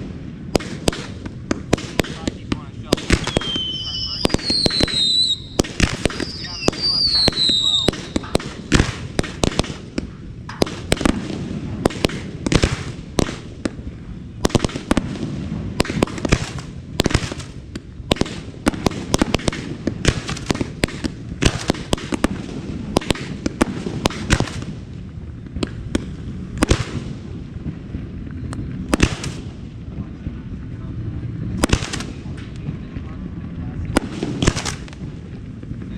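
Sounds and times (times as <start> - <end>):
firework shell bursts and crackling: 0.0 - 27.8, 28.6 - 29.9, 31.5 - 32.9, 33.9 - 35.9
steady rumble: 0.0 - 35.9.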